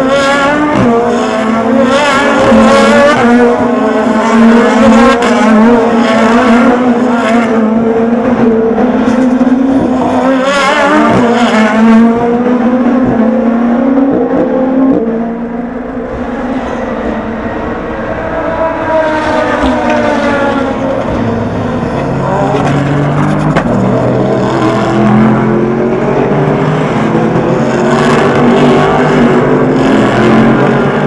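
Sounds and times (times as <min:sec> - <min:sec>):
race car engines passing: 0:00.0 - 0:31.0.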